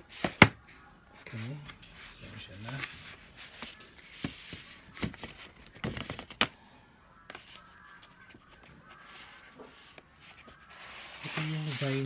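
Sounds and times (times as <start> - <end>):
cardboard and sleeves handled: 0.0 - 6.5, 7.3 - 12.0.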